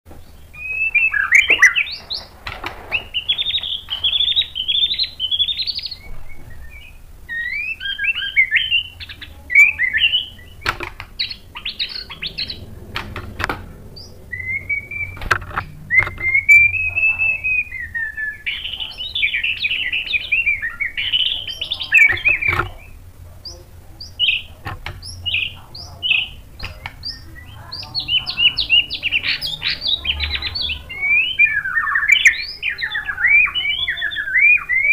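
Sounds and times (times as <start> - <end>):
bird singing trills and whistles: 0.2 - 34.9.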